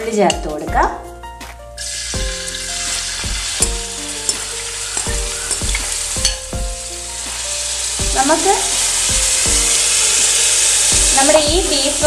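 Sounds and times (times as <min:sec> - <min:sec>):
shallots sizzling in hot oil: 0:01.8 - 0:12.0.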